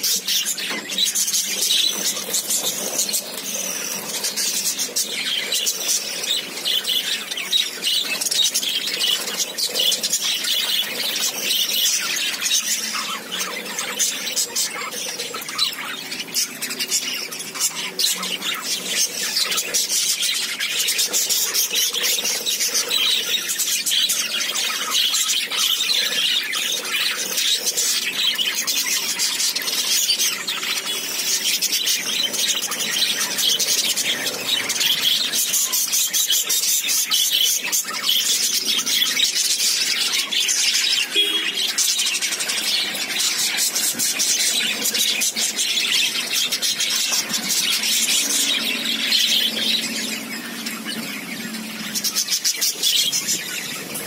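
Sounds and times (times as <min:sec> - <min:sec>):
budgerigars chattering and screeching: 0:00.0 - 0:54.0.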